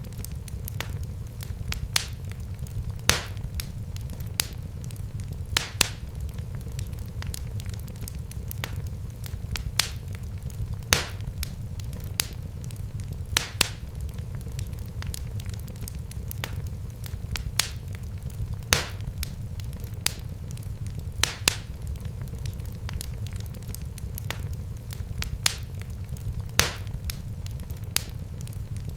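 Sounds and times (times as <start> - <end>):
fire crackling and popping: 0.0 - 28.9
wood fire rumbling: 0.0 - 28.9.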